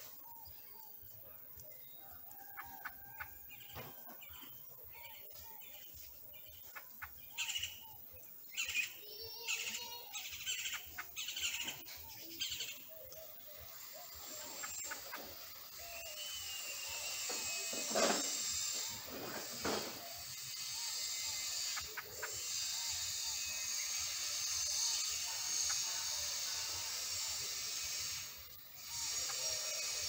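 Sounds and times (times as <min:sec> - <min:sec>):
nestling bird raspy chirps: 0:00.0 - 0:30.0.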